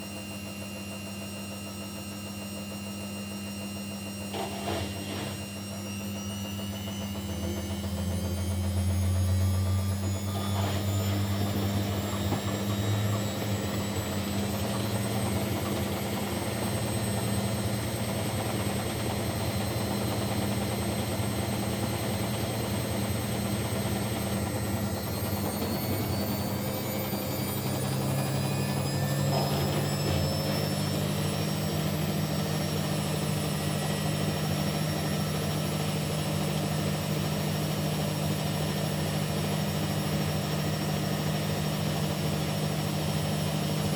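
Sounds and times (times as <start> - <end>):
washing machine motor hum: 0.0 - 43.9
high motor whine: 3.4 - 43.9.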